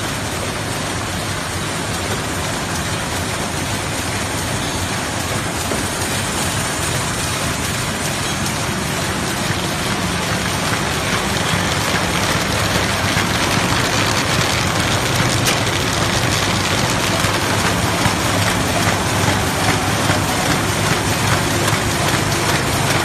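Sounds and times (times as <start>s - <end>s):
paper bag machine clattering: 0.5s - 23.0s.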